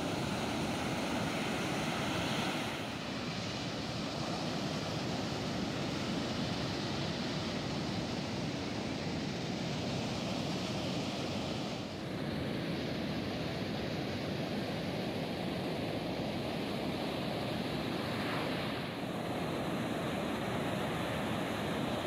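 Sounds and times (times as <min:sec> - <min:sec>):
white water washing up beach: 0:00.0 - 0:22.0.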